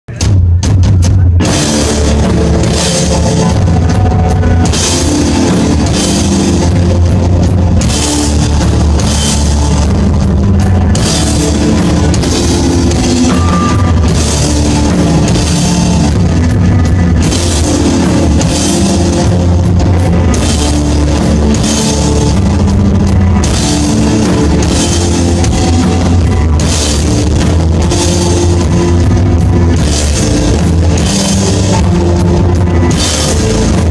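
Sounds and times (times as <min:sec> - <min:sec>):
heavy bass line: 0:00.0 - 0:33.9
rock band playing live: 0:00.1 - 0:33.9
electric guitar: 0:01.0 - 0:33.9.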